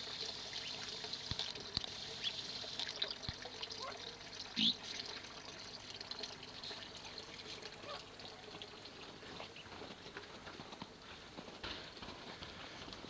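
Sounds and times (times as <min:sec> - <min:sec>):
water trickling in pond: 0:00.0 - 0:11.1.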